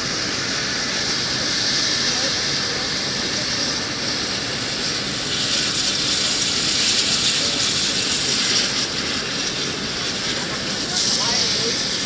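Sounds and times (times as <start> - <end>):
helicopter turbine whine: 0.0 - 12.0.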